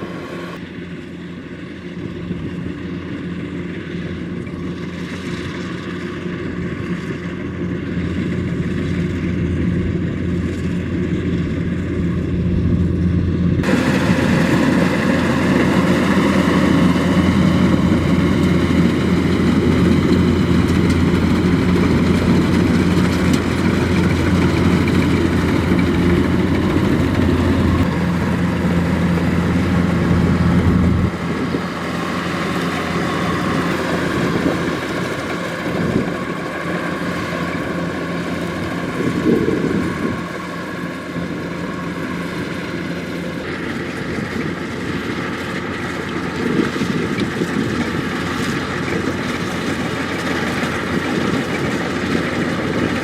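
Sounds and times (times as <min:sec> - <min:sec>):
combine harvester engine hum: 0:00.0 - 0:53.0.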